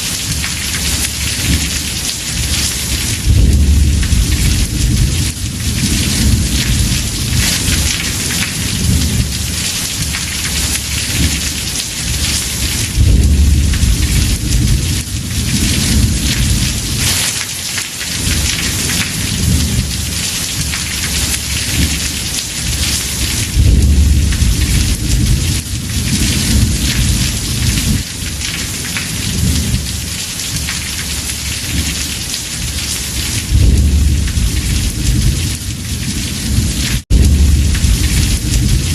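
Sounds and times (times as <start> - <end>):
rolling thunder: 0.0 - 17.3, 18.1 - 38.9
heavy rain drumming on a roof: 0.0 - 38.9.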